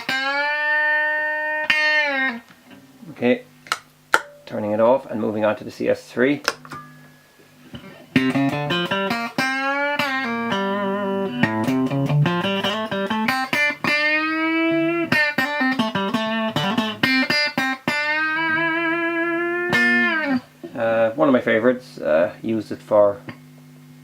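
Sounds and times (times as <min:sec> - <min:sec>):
electric guitar with sustain: 0:00.0 - 0:24.0.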